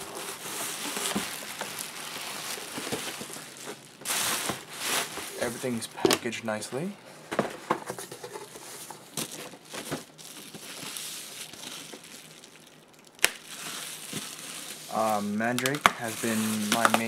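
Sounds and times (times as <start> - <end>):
packaging crinkling: 0.0 - 6.3, 7.7 - 17.0.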